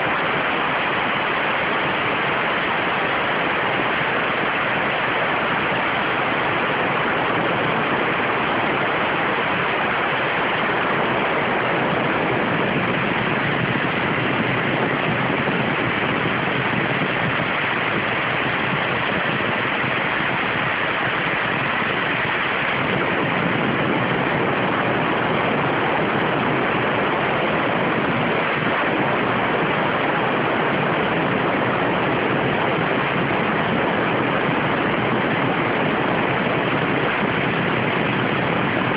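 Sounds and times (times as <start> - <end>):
waterjet cutter hissing: 0.0 - 38.9.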